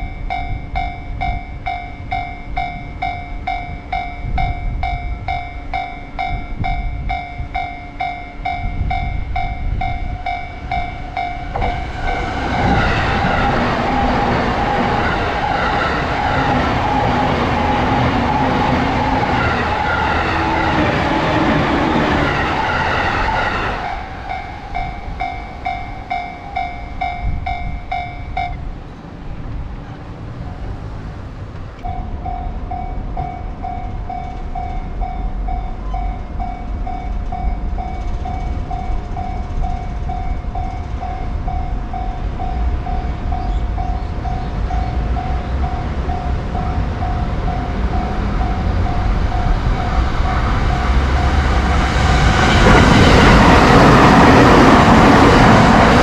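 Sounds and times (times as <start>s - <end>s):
railroad crossing warning bell: 0.0s - 28.8s, 31.8s - 56.0s
electric train passing: 0.0s - 56.0s.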